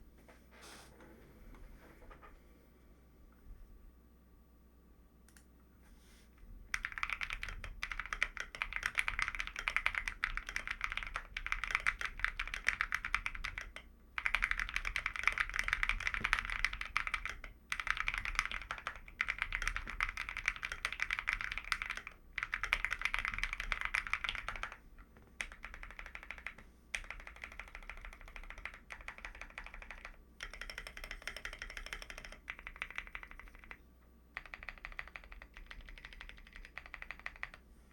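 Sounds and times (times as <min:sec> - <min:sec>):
fast mechanical keyboard typing: 0:06.7 - 0:33.8, 0:34.4 - 0:37.6.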